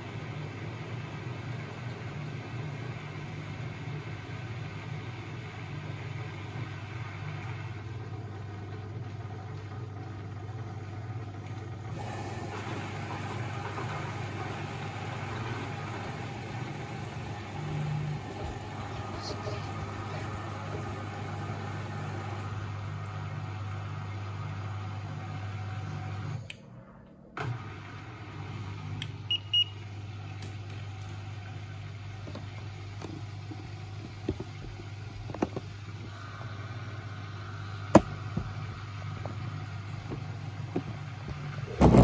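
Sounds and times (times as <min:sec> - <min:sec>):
washing machine drum motor humming: 0:00.0 - 0:26.6, 0:27.4 - 0:42.0.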